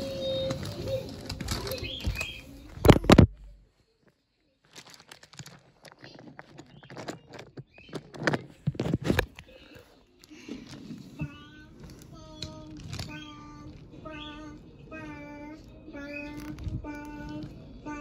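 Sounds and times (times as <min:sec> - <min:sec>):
rustling handling noise: 0:00.0 - 0:18.0.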